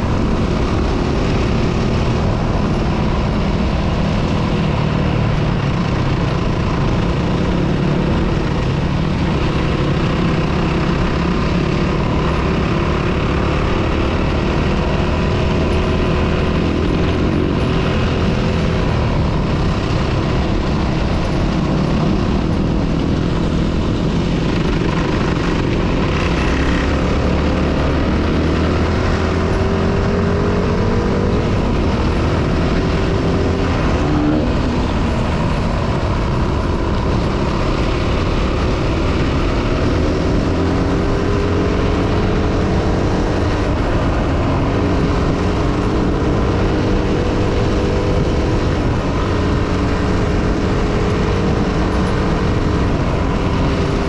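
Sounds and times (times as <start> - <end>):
motorbike engine running: 0.0 - 54.0
tyres on gravel road: 0.0 - 54.0
wind noise: 0.0 - 54.0.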